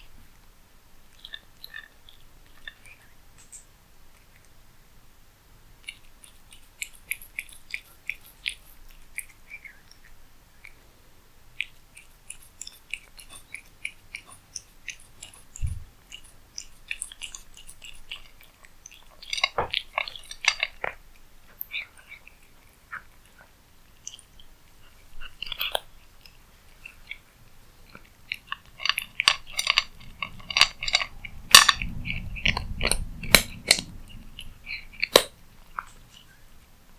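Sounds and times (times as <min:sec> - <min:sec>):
cat chewing food: 0:00.0 - 0:36.9.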